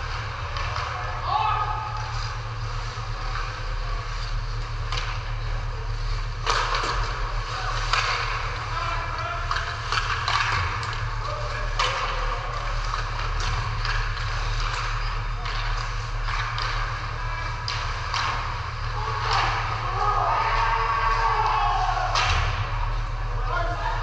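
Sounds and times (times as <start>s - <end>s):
hockey sticks clacking puck: 0.0s - 24.0s
steady low hum: 0.0s - 24.0s.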